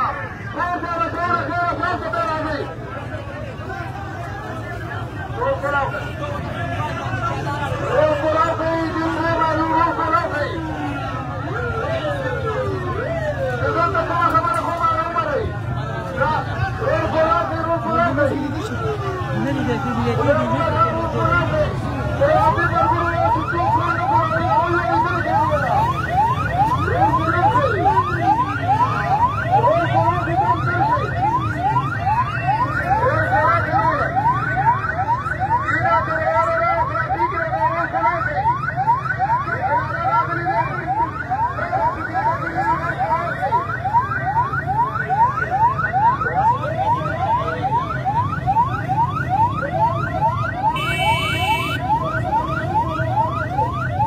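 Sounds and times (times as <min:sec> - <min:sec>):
ambulance siren yelping: 0:00.0 - 0:54.0
large crowd noise: 0:00.0 - 0:54.0.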